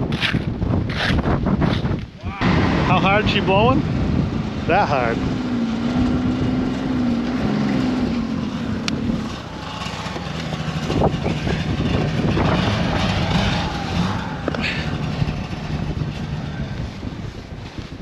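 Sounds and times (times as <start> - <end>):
wind buffeting microphone: 0.0 - 18.0
snowmobile engine running: 2.4 - 18.0.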